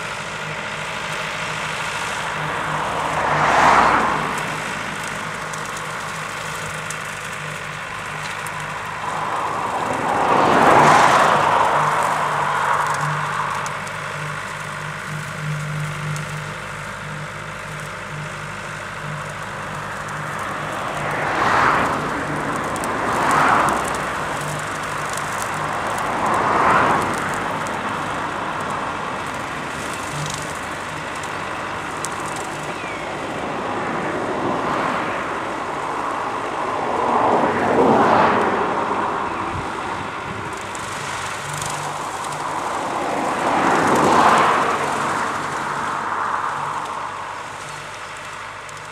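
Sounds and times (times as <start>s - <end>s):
rushing noise of topper cutting: 0.0s - 48.9s
tractor diesel engine running: 0.0s - 48.9s.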